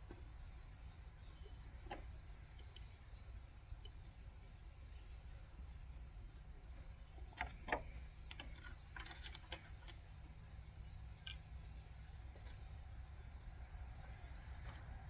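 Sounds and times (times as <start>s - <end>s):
faint clicks and knocks on engine parts: 0.0s - 15.0s.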